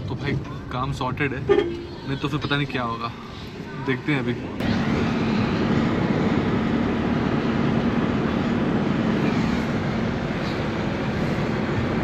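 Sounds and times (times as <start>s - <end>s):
road noise: 0.0s - 12.0s
engine hum: 1.4s - 12.0s.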